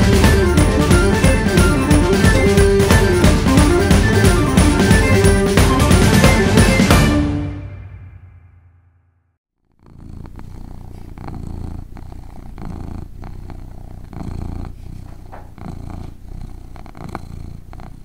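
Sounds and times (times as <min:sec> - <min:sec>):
cat purring: 0:00.0 - 0:06.7, 0:09.6 - 0:18.0.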